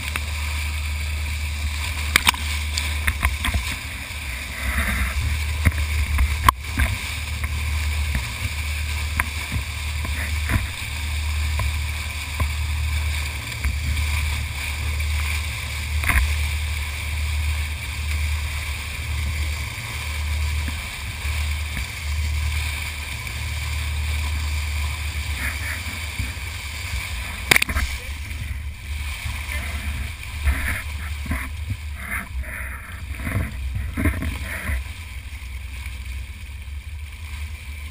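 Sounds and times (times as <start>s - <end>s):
boat engine drone: 0.0s - 37.9s
water splashing at bow: 0.0s - 37.9s.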